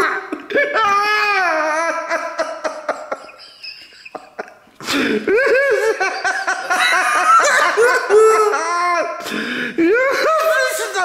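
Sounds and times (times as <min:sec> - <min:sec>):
man laughing: 0:00.0 - 0:09.2.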